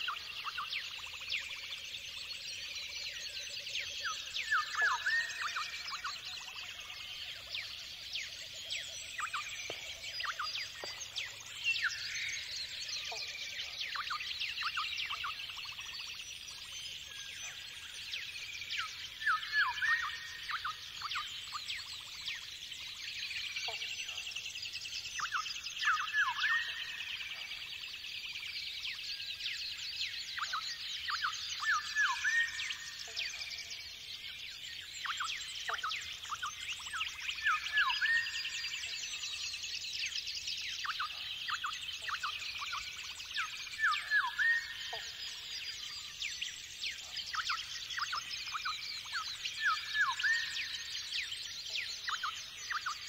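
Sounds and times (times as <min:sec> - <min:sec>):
chorus of birds calling: 0:00.0 - 0:53.0.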